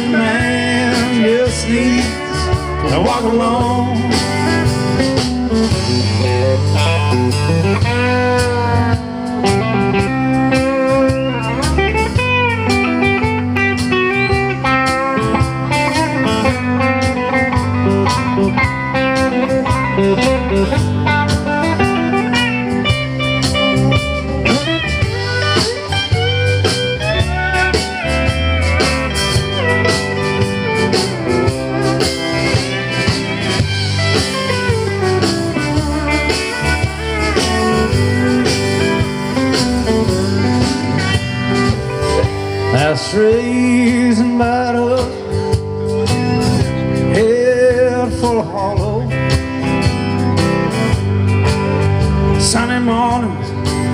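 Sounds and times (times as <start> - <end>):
bass: 0.0 - 53.9
drums: 0.0 - 53.9
electric guitar: 0.0 - 53.9
steel guitar: 0.0 - 53.9
strummed acoustic guitar: 0.0 - 53.9.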